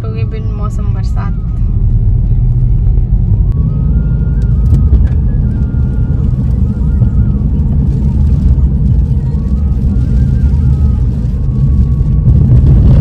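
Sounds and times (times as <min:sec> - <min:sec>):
car engine and tyres on wet road: 0:00.0 - 0:13.0.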